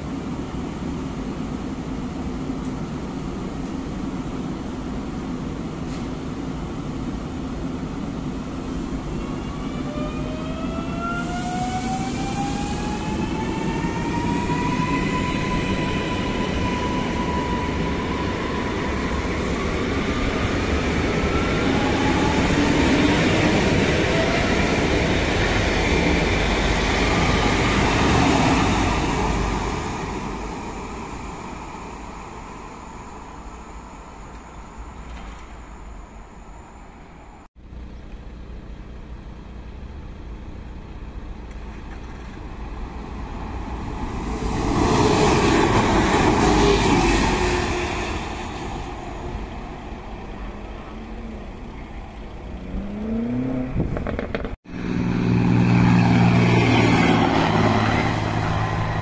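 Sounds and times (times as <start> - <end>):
electric train low hum: 0.0 - 59.0.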